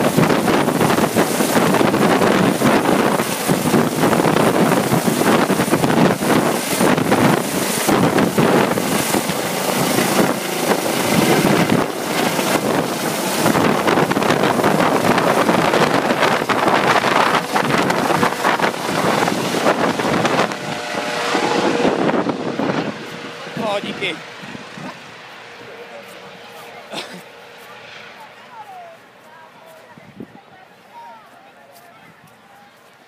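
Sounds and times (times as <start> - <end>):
wind buffeting microphone: 0.0 - 26.5, 29.9 - 30.7
helicopter rotor and turbine: 0.0 - 30.3.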